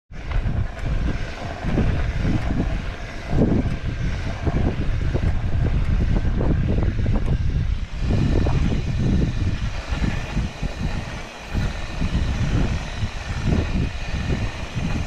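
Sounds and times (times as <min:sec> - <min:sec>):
low rumble: 0:00.1 - 0:15.0
bike motor grinding: 0:00.2 - 0:15.0.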